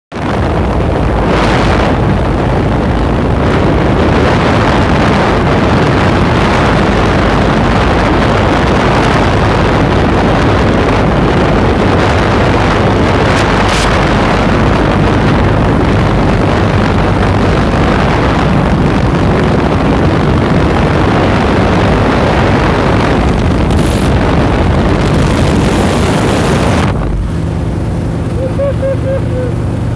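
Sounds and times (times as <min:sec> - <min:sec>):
wind rush: 0:00.1 - 0:29.9
aircraft engine and propeller: 0:00.2 - 0:29.9.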